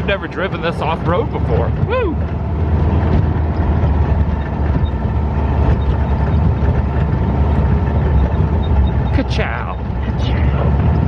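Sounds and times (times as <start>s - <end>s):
dune buggy engine rumbling: 0.0s - 11.0s.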